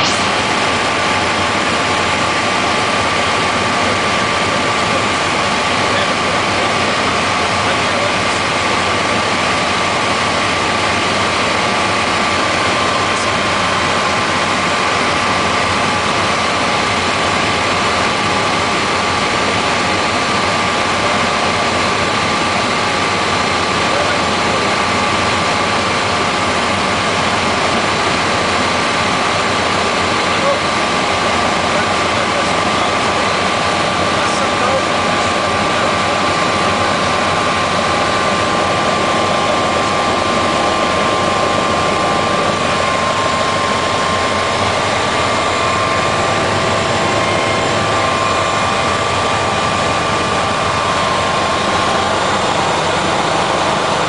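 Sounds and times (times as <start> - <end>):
helicopter cabin engine rush: 0.0 - 54.0
high turbine whine: 0.0 - 54.0.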